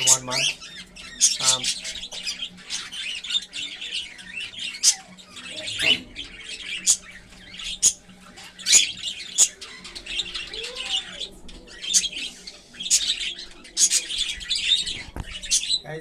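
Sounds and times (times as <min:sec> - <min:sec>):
cockatiels chirping: 0:00.0 - 0:16.0.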